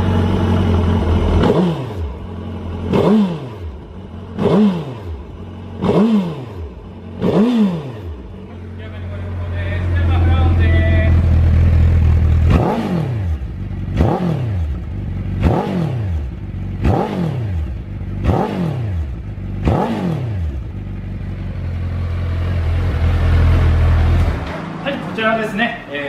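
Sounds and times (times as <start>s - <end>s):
motorcycle engine idling: 0.0s - 26.0s
motorcycle engine revving: 0.0s - 26.0s.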